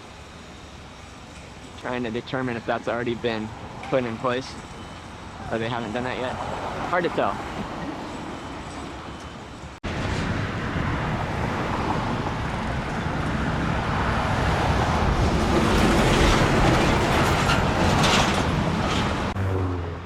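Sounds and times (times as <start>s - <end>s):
vehicle rumble and hiss: 0.0s - 20.0s.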